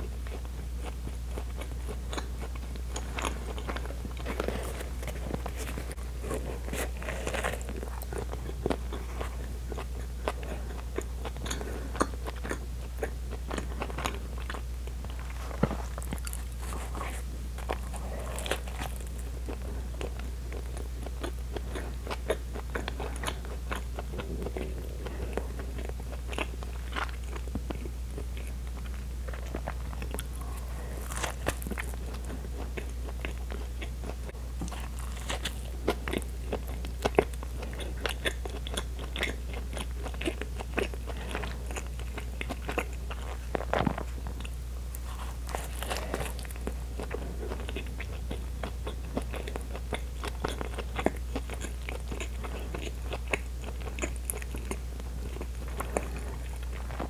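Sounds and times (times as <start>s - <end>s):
chewing with wet mouth clicks: 0.0s - 57.0s
steady low hum: 0.0s - 57.0s.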